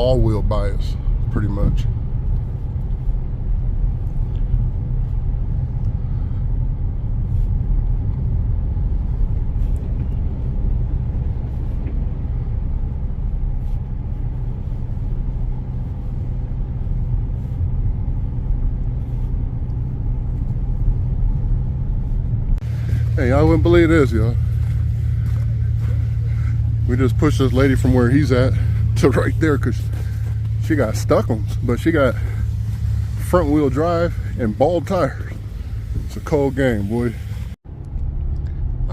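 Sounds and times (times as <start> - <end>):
car driving on snowy road: 0.0 - 38.9.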